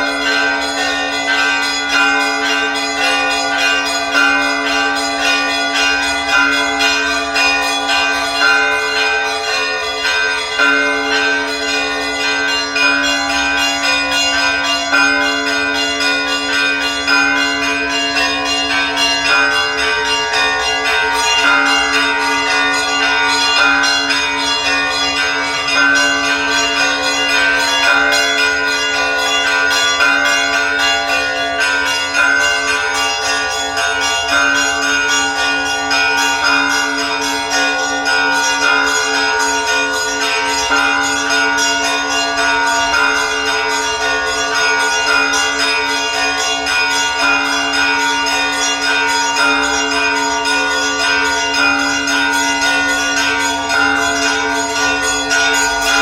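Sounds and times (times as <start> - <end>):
deep church bells ringing: 0.0 - 56.0
small bells struck rapidly: 0.0 - 56.0.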